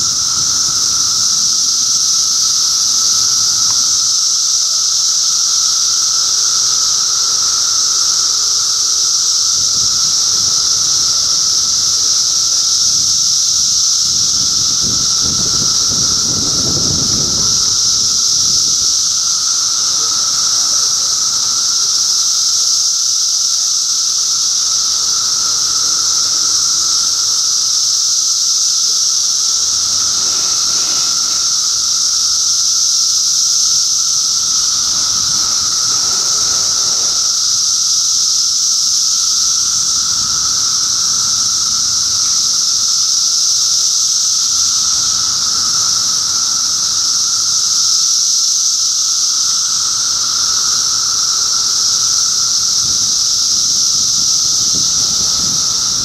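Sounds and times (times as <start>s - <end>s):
cicadas high-pitched drone: 0.0s - 56.0s
steady lower cicada tone: 0.0s - 56.0s.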